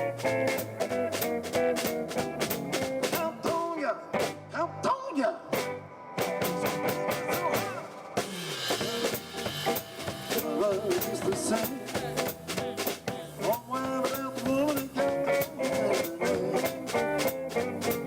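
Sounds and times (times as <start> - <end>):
drum kit played with brushes: 0.0 - 4.5, 5.5 - 18.0
upright bass walking: 0.0 - 4.8, 5.5 - 7.8, 8.7 - 18.0.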